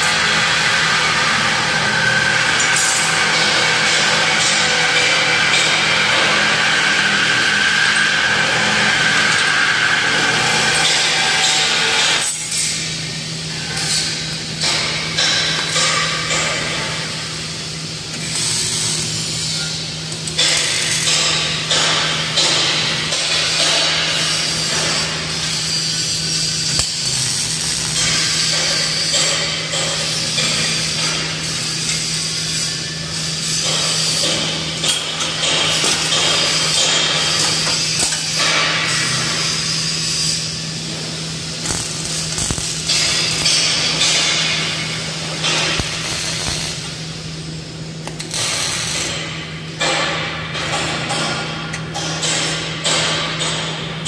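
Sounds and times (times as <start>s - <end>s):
welding arc hissing: 0.0s - 53.7s.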